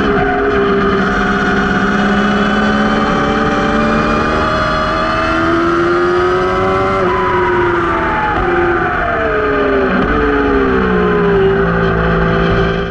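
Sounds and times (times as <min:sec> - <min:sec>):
racing motorcycle engine revving: 0:00.0 - 0:12.9
rushing wind and tyre noise: 0:00.0 - 0:12.9.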